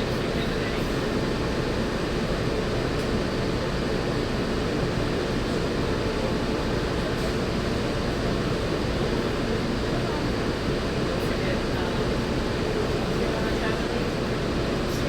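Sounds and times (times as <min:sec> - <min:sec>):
monorail running noise: 0:00.0 - 0:15.0.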